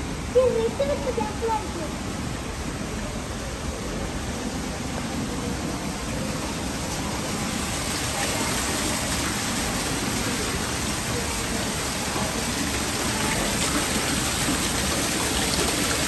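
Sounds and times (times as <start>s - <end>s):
waterfall splashing into a pool: 3.0s - 16.0s.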